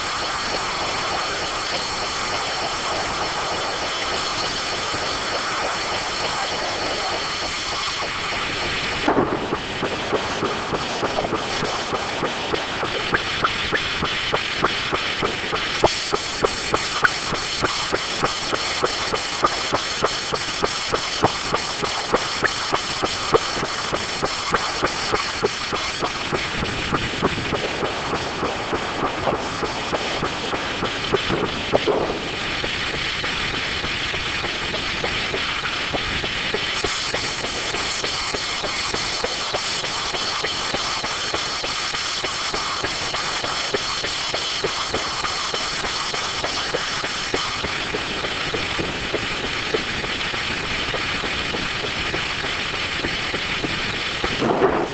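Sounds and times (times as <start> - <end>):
circular sawmill running: 0.0 - 54.9.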